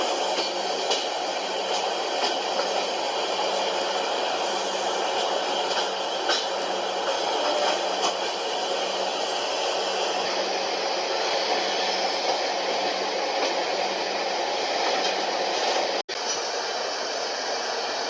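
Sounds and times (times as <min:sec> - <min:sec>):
train rushing rumble: 0:00.0 - 0:18.0.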